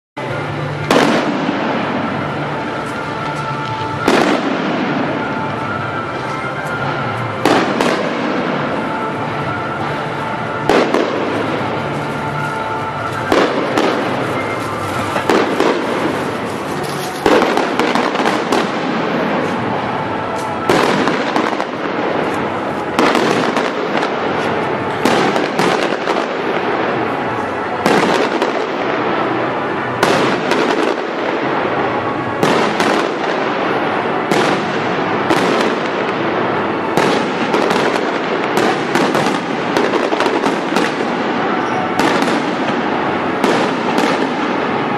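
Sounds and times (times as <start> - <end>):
steady noisy background: 0.2 - 44.9.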